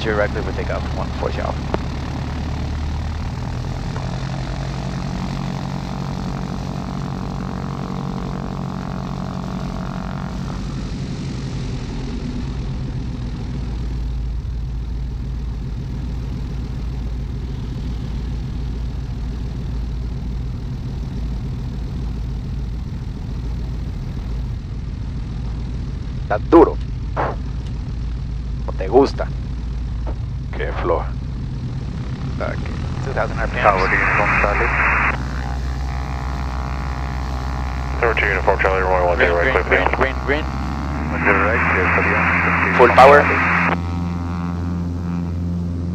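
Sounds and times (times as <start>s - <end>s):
aircraft engines and propellers: 0.0s - 45.9s
higher droning tone: 0.0s - 45.9s.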